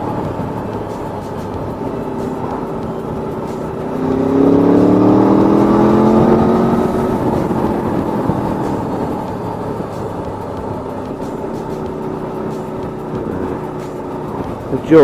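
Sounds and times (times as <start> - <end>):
motorcycle engine accelerating: 0.0 - 15.0
steady rushing noise: 0.0 - 15.0.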